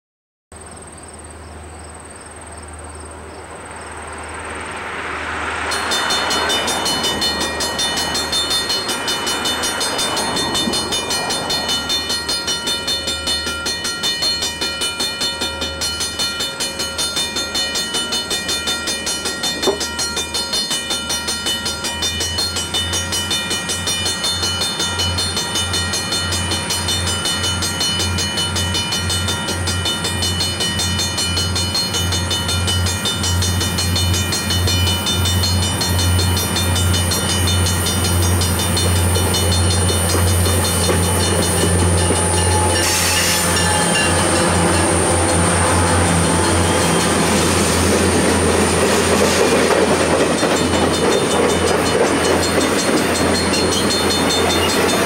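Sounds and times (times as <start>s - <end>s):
diesel locomotive engines: 0.6s - 55.0s
train wheels rumbling on rails: 2.4s - 55.0s.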